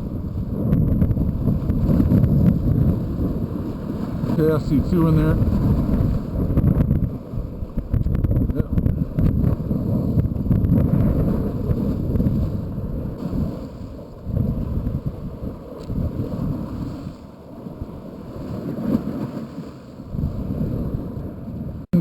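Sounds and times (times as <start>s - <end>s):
wind buffeting microphone: 0.0s - 21.9s
water against seawall: 0.0s - 22.0s.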